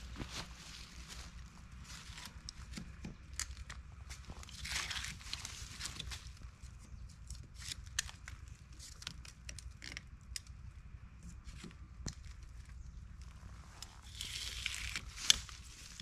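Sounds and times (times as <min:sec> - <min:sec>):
low steady rumble: 0:00.0 - 0:16.0
twigs snapping and leaves rustling: 0:00.2 - 0:10.6, 0:11.4 - 0:16.0.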